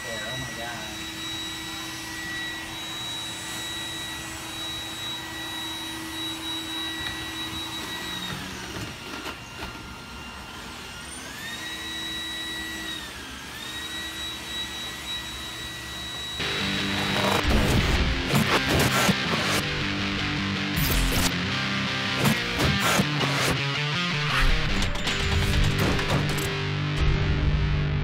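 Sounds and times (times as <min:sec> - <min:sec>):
robot vacuum motor whine: 0:00.0 - 0:21.4, 0:22.2 - 0:23.6.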